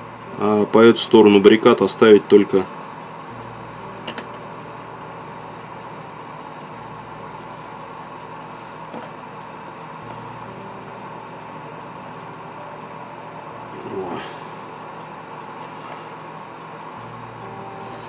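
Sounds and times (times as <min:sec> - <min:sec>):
electrical hum: 0:00.0 - 0:18.0
faint ticking: 0:00.0 - 0:18.0.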